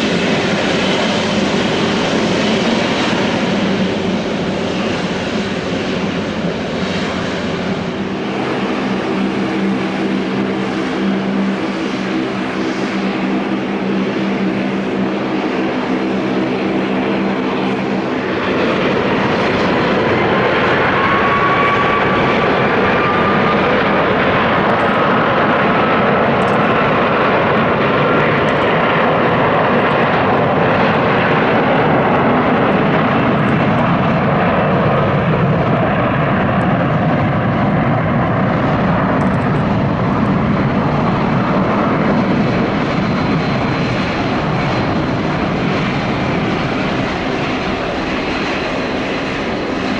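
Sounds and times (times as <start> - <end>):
jet engines roaring at takeoff: 0.0 - 49.9.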